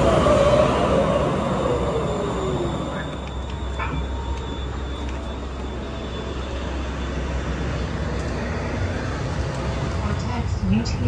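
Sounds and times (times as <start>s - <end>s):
train rumbling inside car: 0.0s - 11.0s.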